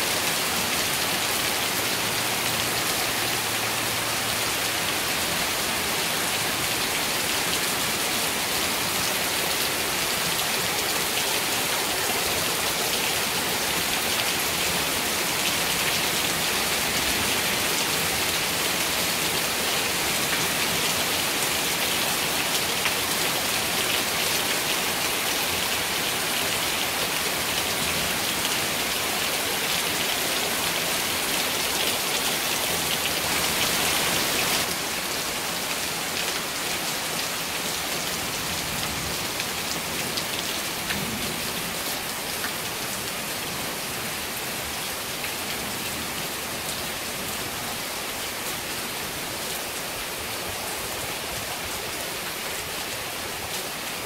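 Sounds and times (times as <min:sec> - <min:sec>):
heavy rain on trees and lawn: 0:00.0 - 0:54.0.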